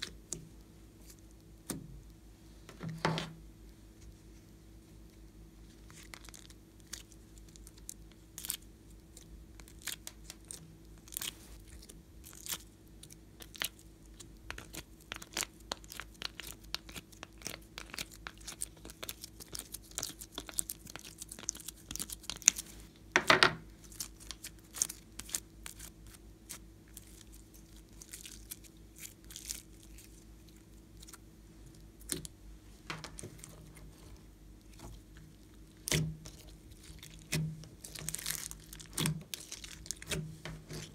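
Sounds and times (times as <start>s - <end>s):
slime squishing with sticky crackles: 0.0s - 2.2s, 4.0s - 40.9s.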